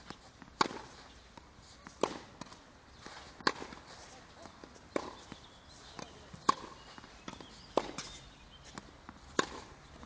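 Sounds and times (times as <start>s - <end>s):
racket hitting tennis ball: 0.0s - 10.0s.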